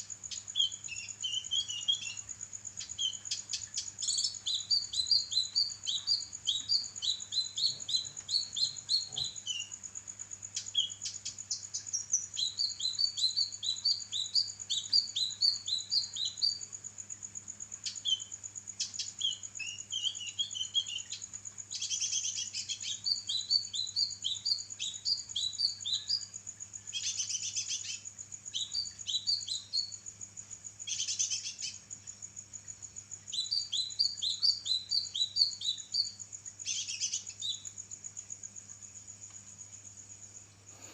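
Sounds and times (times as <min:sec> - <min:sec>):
songbird chirping and trilling: 0:00.0 - 0:16.7, 0:17.7 - 0:30.2, 0:30.8 - 0:37.9.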